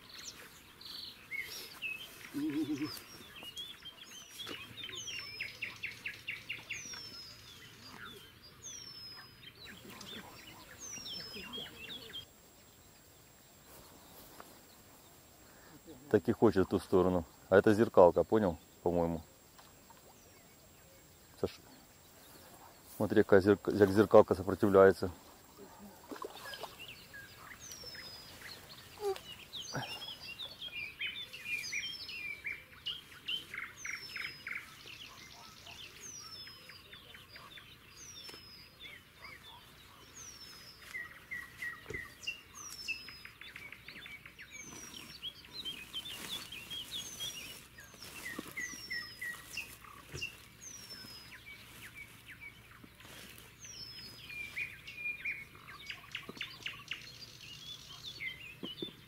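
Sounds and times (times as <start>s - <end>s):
birds chattering and twittering: 0.0s - 59.0s.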